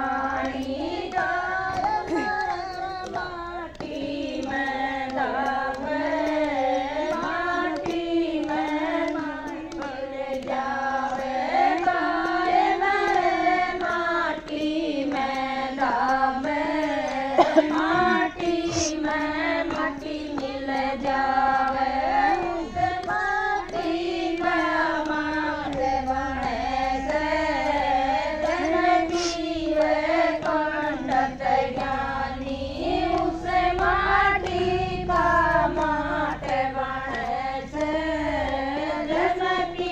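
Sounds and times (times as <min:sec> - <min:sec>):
women singing devotional song: 0:00.0 - 0:39.9.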